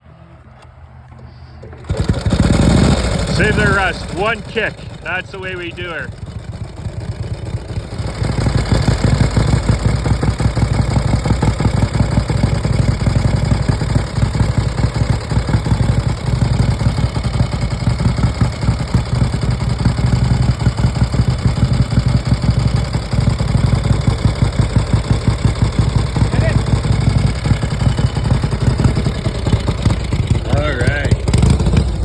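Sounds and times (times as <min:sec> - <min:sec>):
motorcycle engine running: 0:01.8 - 0:32.0.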